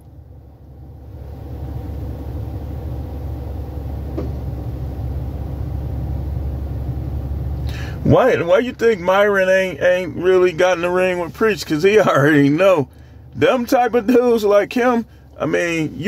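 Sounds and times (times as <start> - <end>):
vehicle rumble inside car: 0.0 - 16.0.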